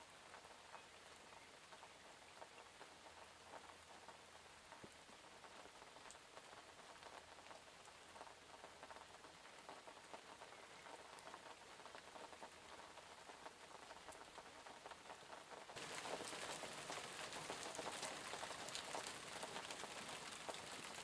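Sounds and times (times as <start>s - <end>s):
soft rain pattering: 0.0s - 21.0s.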